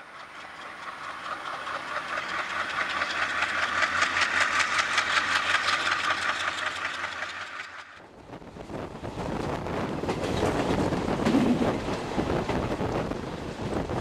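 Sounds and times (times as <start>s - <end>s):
train wheels clattering: 0.0s - 8.0s, 8.9s - 14.0s.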